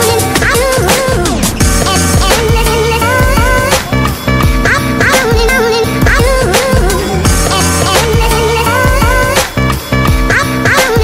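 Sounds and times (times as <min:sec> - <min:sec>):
drum beat: 0:00.0 - 0:11.0
sliding bass notes: 0:00.0 - 0:11.0
wavering lead melody: 0:00.0 - 0:11.0.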